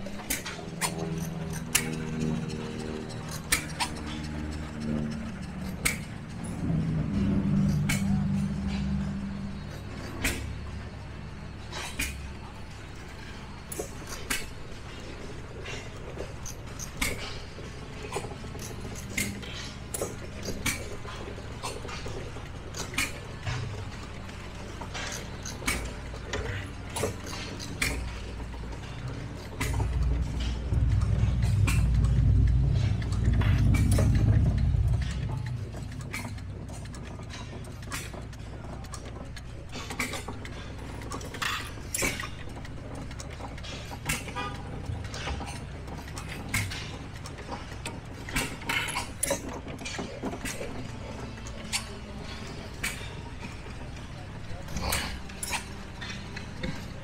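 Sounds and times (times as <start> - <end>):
small gas engines running: 0.0 - 57.0.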